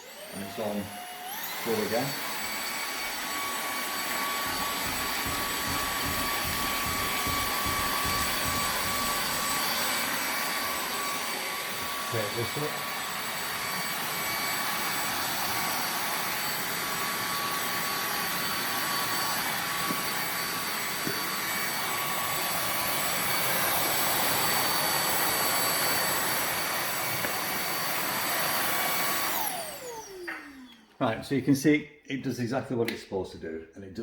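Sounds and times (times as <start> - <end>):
handheld vacuum cleaner running: 0.0 - 31.0.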